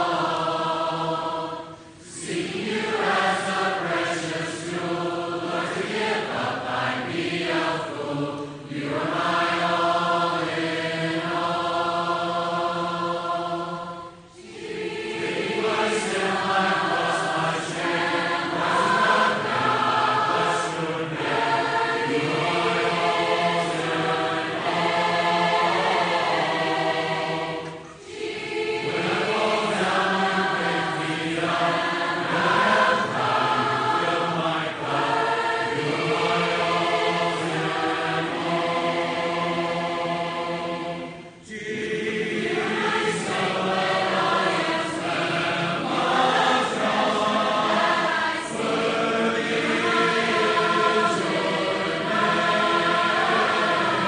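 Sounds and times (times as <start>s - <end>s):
choir singing held phrases: 0.0s - 54.0s.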